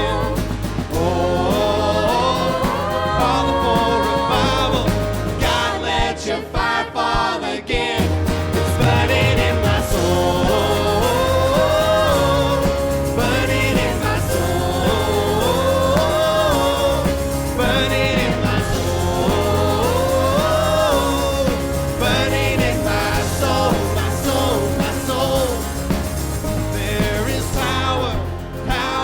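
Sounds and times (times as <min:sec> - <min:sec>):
person singing: 0:00.0 - 0:29.0
worship band playing: 0:00.0 - 0:29.0.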